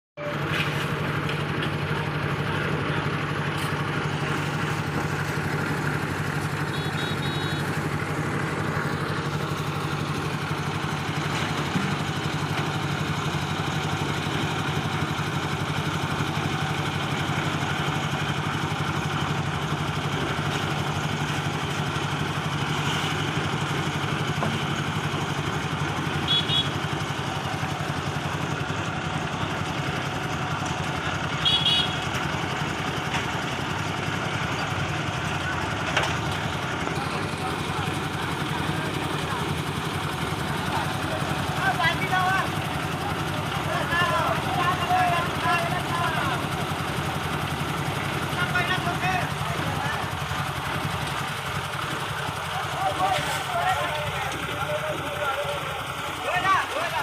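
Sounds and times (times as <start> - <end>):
concrete mixer engine humming: 0.2 - 57.0.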